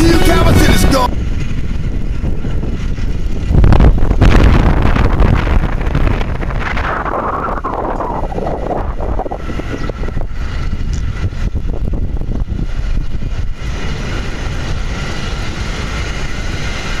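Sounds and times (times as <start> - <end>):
wheelchair wheels rumbling on pavement: 0.0 - 17.0
wind on microphone: 0.0 - 17.0.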